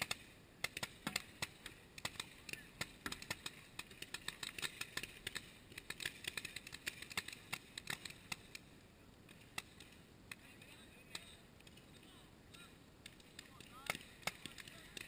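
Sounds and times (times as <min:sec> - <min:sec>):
paintball markers firing: 0:00.0 - 0:08.7, 0:09.3 - 0:15.0.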